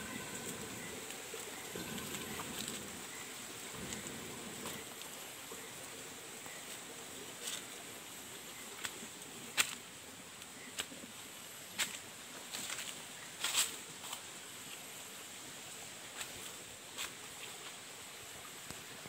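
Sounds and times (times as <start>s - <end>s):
faint high-pitched whine: 0.0s - 19.0s.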